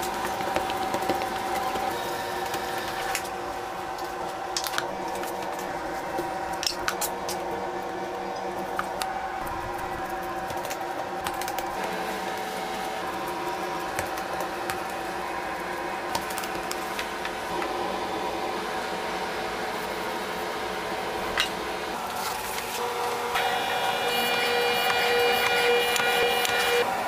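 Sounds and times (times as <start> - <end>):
kitchen machinery humming: 0.0 - 27.0.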